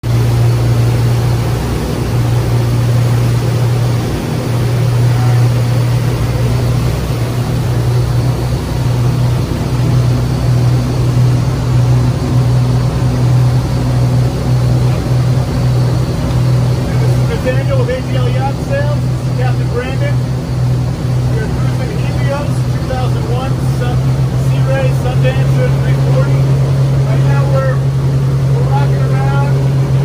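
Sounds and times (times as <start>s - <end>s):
boat engines droning: 0.0s - 30.0s.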